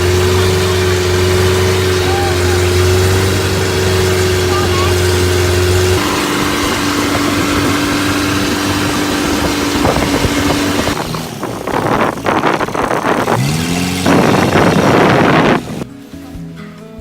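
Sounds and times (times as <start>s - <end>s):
motorboat engine revving: 0.0s - 15.9s
rush of wind and water: 0.0s - 15.9s.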